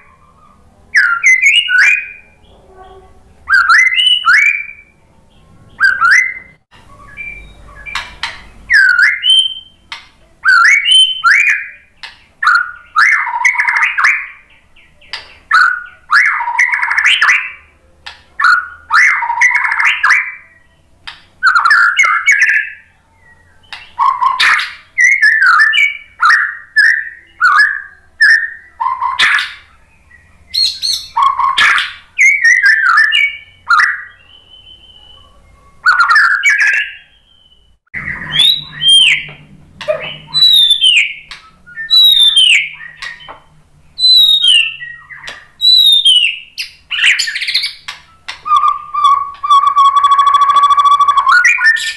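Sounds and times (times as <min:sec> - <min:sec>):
bird whistling song: 0:00.0 - 0:17.8, 0:18.4 - 0:51.9.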